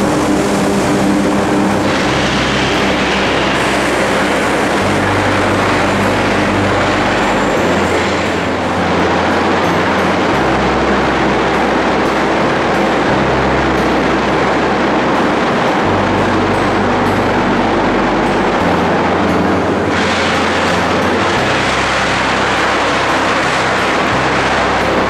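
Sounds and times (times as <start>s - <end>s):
industrial machinery rumble and hiss: 0.0s - 25.0s
low shifting hum: 0.0s - 25.0s.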